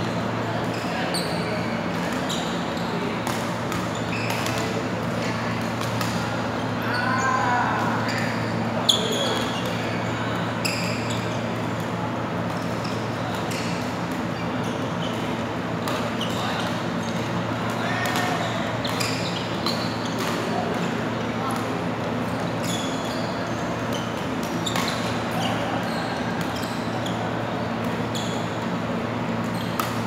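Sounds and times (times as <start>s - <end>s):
players' voices: 0.1s - 30.0s
shoes squeaking on court: 0.6s - 30.0s.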